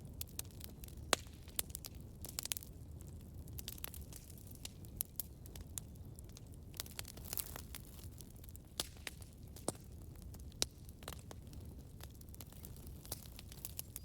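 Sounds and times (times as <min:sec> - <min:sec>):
campfire crackling and popping: 0:00.0 - 0:14.0
low rumble of flames: 0:00.0 - 0:14.0.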